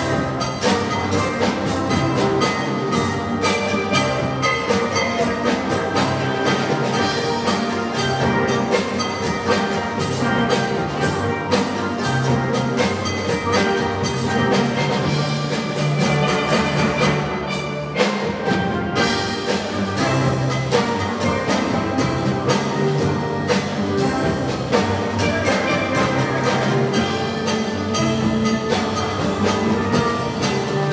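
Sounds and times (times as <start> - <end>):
steel band playing: 0.0 - 30.9.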